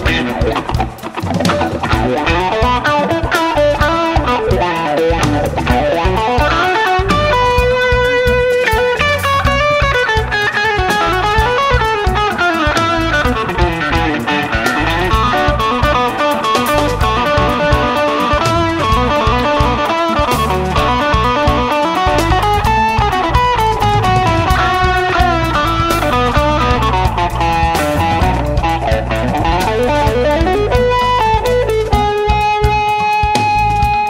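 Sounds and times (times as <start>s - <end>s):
bass and drum beat: 0.0s - 34.0s
electric guitar lead: 0.0s - 34.0s.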